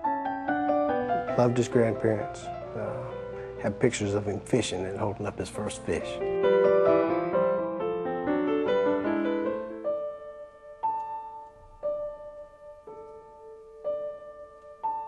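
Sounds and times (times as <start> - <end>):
soft solo piano: 0.0 - 15.0.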